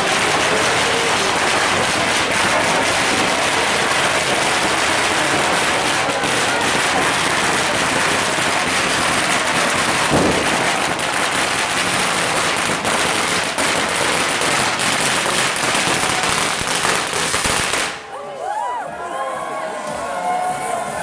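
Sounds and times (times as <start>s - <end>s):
firecrackers crackling: 0.0s - 18.2s.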